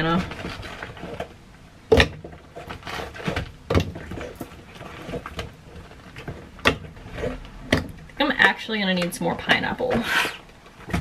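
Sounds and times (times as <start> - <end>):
handling noises: 0.0 - 11.0.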